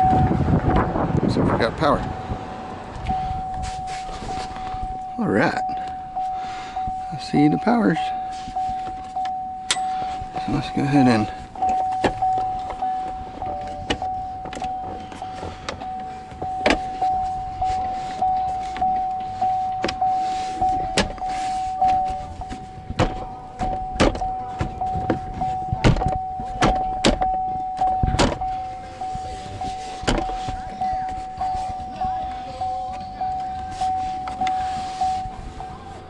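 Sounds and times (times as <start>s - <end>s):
car warning chime dinging: 0.0s - 36.0s.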